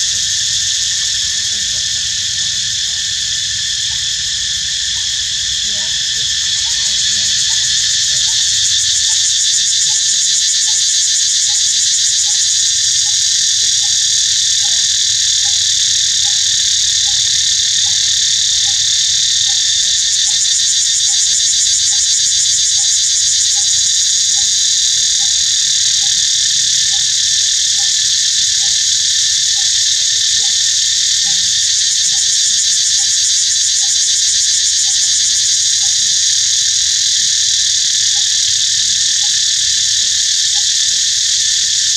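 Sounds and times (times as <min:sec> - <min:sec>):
insect chorus shrilling: 0:00.0 - 0:41.9.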